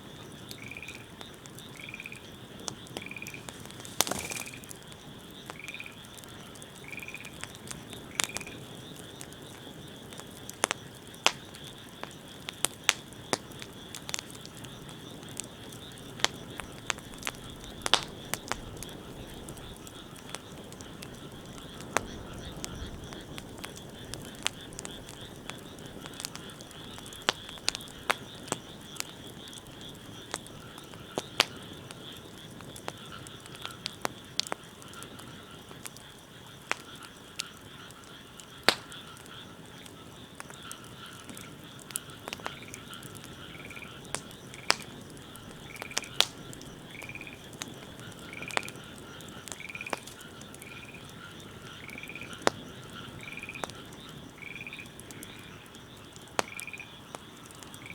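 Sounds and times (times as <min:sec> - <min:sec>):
frogs calling: 0:00.0 - 0:57.9
wood fire crackling: 0:00.0 - 0:57.9.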